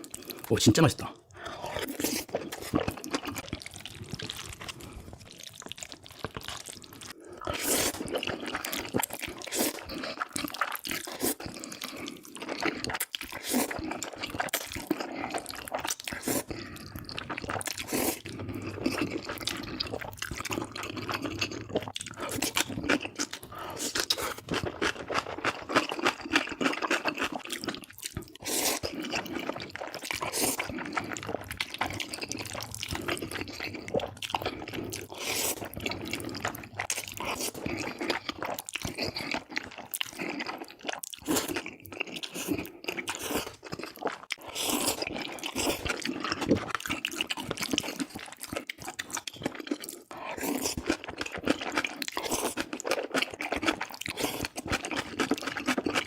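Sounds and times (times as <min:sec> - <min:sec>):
person chewing noodles: 0:00.0 - 0:56.0.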